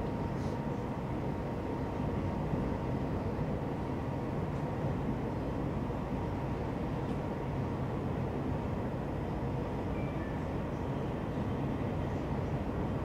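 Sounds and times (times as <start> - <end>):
faint steady whine: 0.0 - 13.0
train rumble inside carriage: 0.0 - 13.0.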